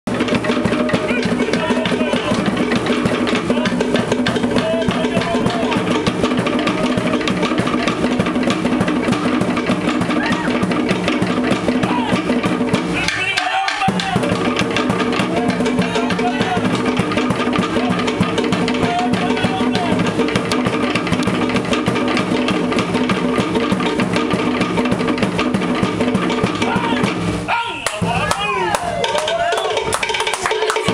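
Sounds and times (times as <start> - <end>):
fast dense drumming: 0.1 - 30.9.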